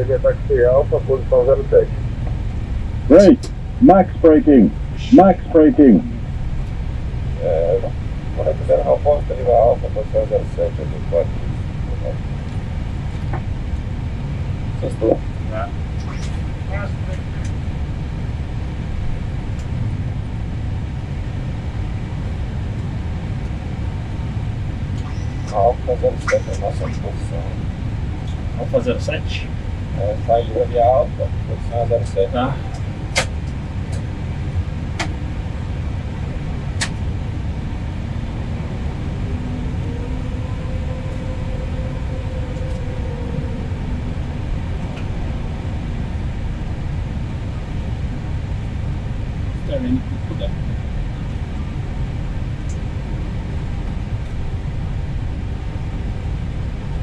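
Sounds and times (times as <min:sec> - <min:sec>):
aircraft cockpit rumble: 0:00.0 - 0:57.0
airliner engines idling: 0:00.0 - 0:57.0
faint humming tone: 0:00.0 - 0:57.0.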